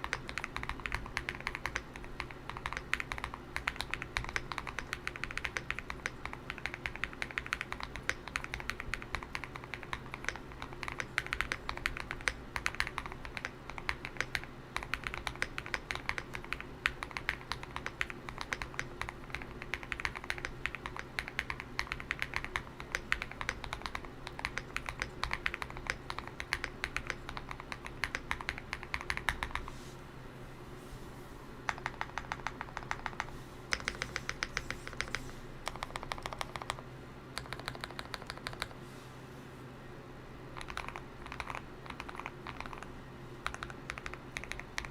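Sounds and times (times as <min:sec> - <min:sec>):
mechanical keyboard typing: 0:00.0 - 0:29.6, 0:31.7 - 0:36.8, 0:37.4 - 0:38.8, 0:40.6 - 0:44.9.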